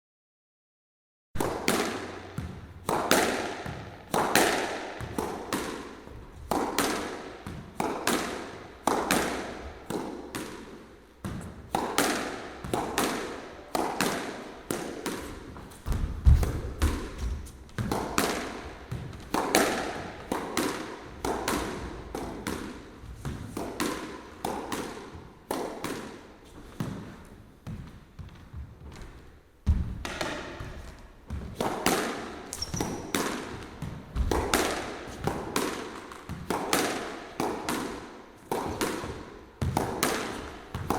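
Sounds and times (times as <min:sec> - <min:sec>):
squash ball hits echoing: 0:01.4 - 0:40.9.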